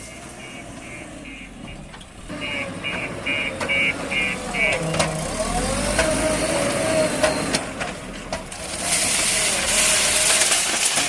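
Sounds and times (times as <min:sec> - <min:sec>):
diesel engine working under load: 0:00.0 - 0:11.0.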